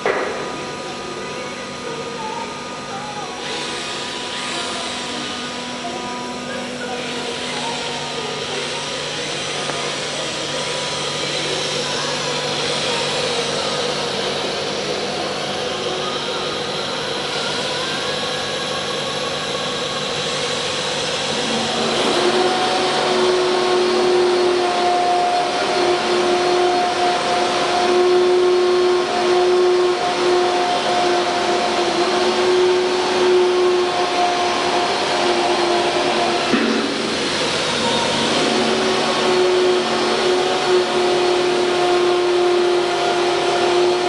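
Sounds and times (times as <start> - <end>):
steady hum tone: 0.0 - 44.0
wood router spindle whirring: 0.0 - 44.0.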